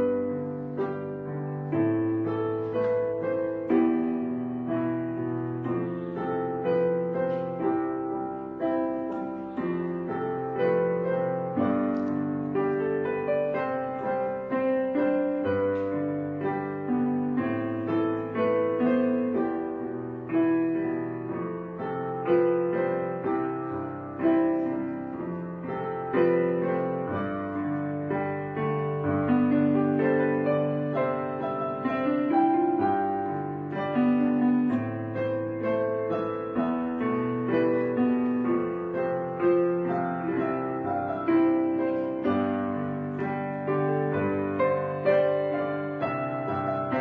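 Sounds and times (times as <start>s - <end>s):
calm piano music: 0.0s - 47.0s.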